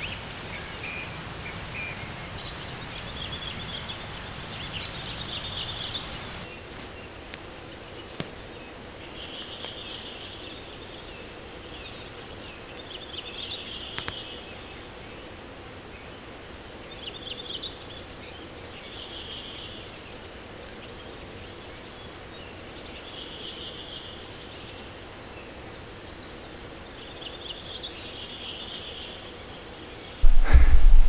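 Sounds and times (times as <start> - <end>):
outdoor background hiss: 0.0 - 30.7.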